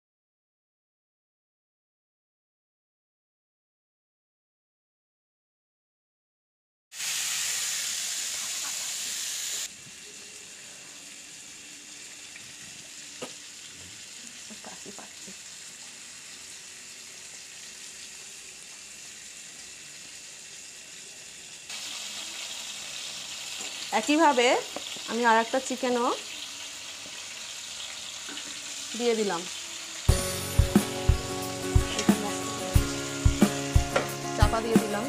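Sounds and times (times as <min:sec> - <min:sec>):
chicken sizzling in hot oil: 0:06.9 - 0:35.0.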